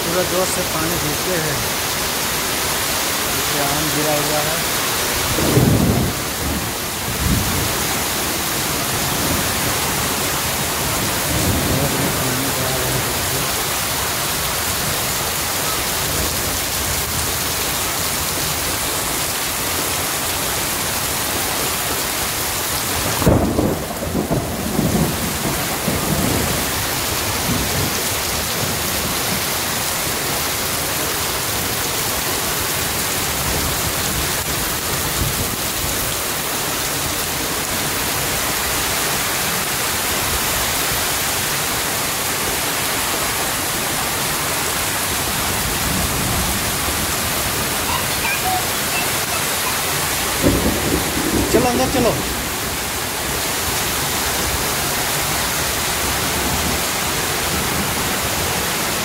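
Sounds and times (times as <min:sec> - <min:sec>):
heavy rain on concrete: 0:00.0 - 0:59.0.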